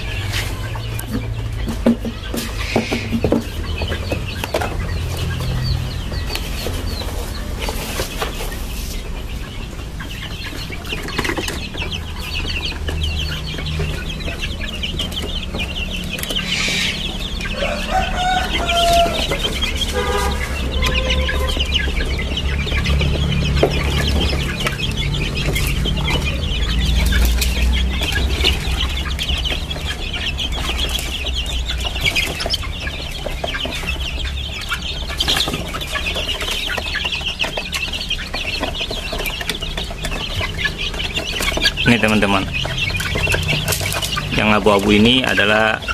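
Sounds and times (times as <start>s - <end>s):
chicken calls: 0.0s - 45.9s
chicks peeping: 0.0s - 45.9s.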